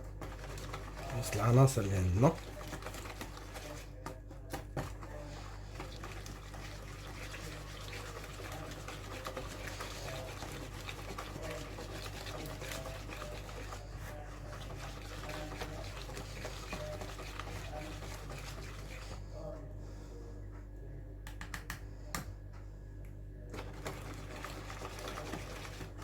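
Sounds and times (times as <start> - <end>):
utensil stirring in a bowl: 0.0 - 20.2, 23.5 - 26.0
low steady hum: 0.0 - 26.0.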